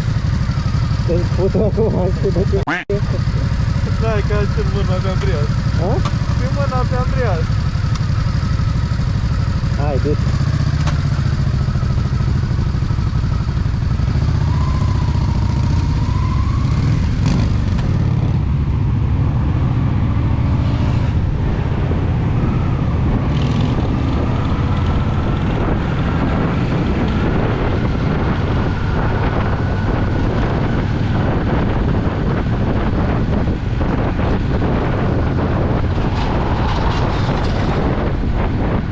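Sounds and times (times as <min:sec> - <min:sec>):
motorcycle engine running: 0:00.0 - 0:38.9
wind rushing over microphone: 0:03.0 - 0:38.9.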